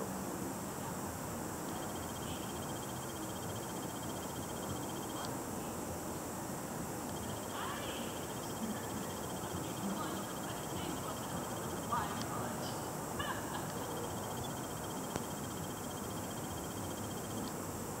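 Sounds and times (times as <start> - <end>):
steady hiss: 0.0 - 18.0
faint high pulsing trill: 1.6 - 5.5, 6.9 - 18.0
short distant calls: 1.7 - 5.8, 7.0 - 17.6.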